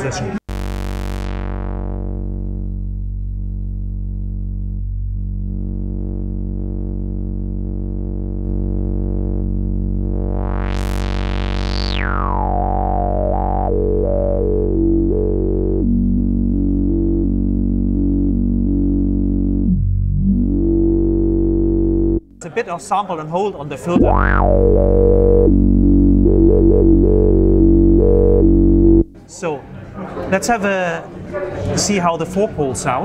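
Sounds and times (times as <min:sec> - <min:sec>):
synthesizer low note with filter sweep: 0:00.5 - 0:22.5, 0:24.0 - 0:29.2.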